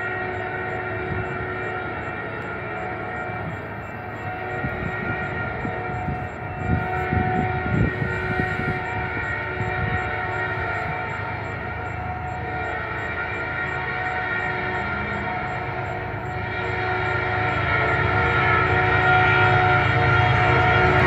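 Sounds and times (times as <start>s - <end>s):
locomotive horn chord: 0.0s - 21.0s
train rumble: 0.0s - 21.0s.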